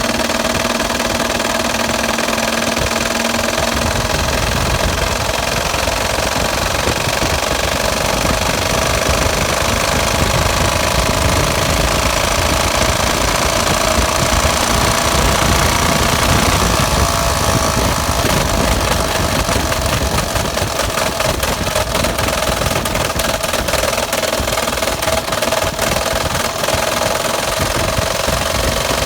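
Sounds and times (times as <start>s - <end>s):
car engine with metallic knocking: 0.0s - 29.0s.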